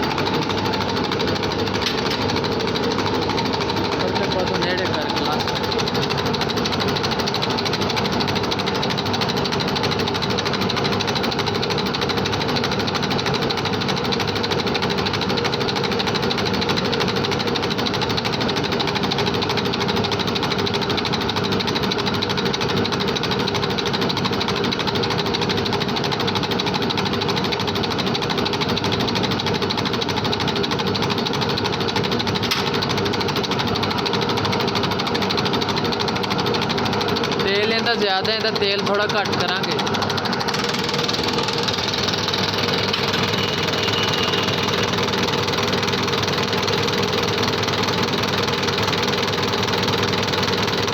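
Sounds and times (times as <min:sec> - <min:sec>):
injection pump mechanical clatter: 0:00.0 - 0:50.9.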